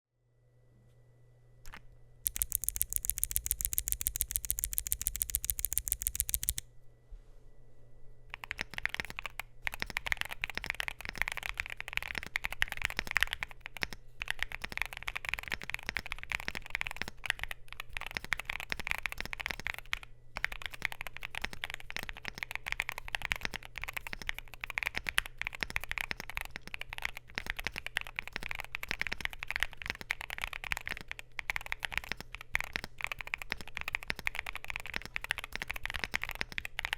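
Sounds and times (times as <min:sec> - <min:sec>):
fast even clicks: 0:01.7 - 0:06.6, 0:08.3 - 0:36.9
typing on mechanical keyboard: 0:01.7 - 0:06.6, 0:08.3 - 0:36.9.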